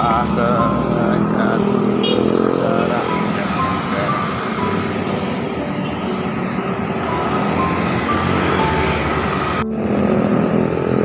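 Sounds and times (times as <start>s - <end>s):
passing cars and motorcycles: 0.0s - 11.0s.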